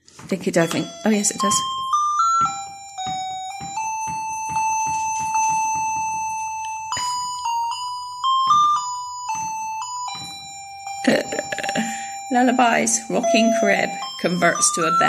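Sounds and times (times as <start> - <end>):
electronic beeping lullaby tune: 0.5 - 15.0.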